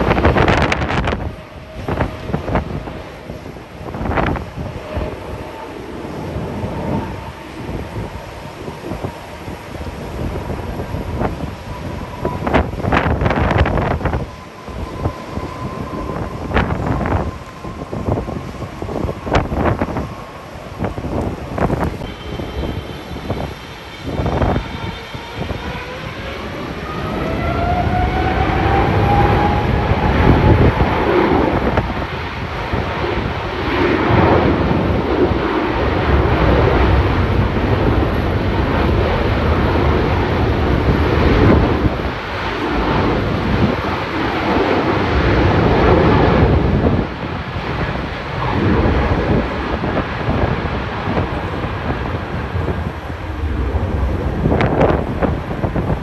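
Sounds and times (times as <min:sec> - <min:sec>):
jet engines whining and rumbling: 0:00.0 - 0:56.0.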